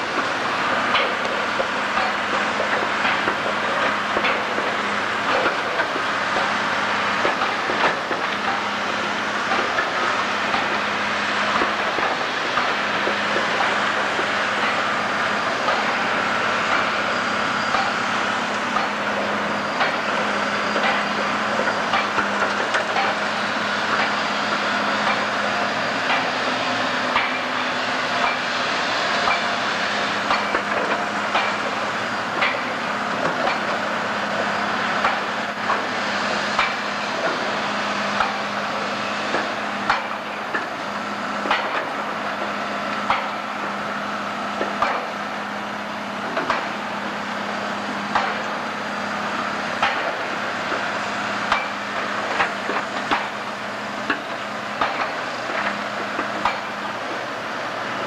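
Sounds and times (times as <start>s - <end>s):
heavy machinery running: 0.0s - 58.0s.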